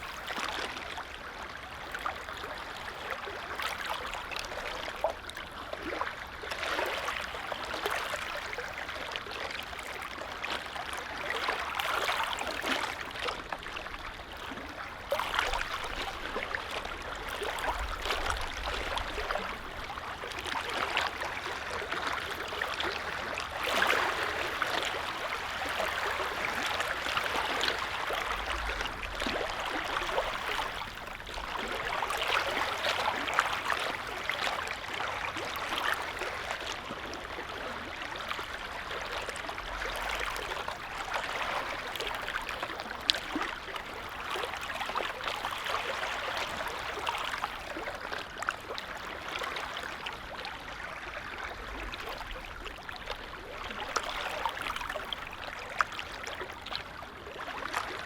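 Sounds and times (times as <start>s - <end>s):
waves lapping at shore: 0.0s - 58.0s.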